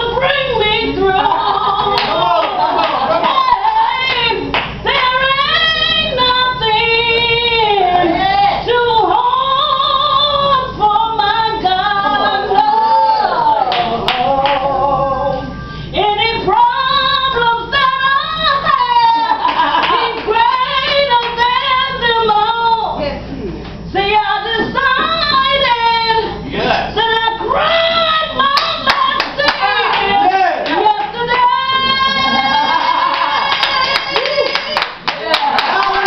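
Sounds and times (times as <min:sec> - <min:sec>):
woman singing gospel: 0:00.0 - 0:23.3, 0:23.9 - 0:36.0.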